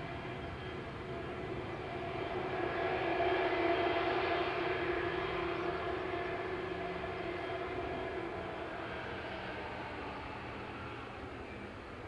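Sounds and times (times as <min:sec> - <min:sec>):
distant jet engine roar and whine: 0:00.0 - 0:12.0.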